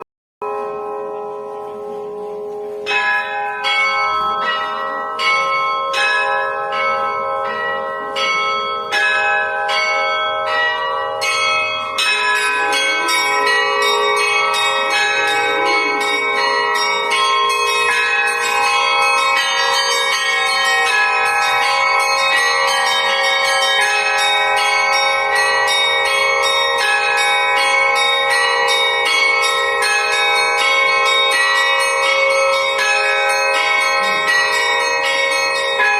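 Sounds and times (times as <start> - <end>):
church bells ringing: 0.4 - 35.9
small bells chiming fast: 0.4 - 35.9.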